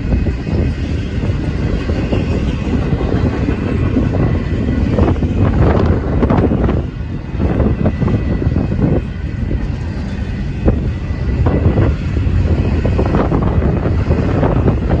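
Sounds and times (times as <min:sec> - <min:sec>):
freight train rumbling: 0:00.0 - 0:15.0
wind gusts buffeting microphone: 0:00.0 - 0:15.0.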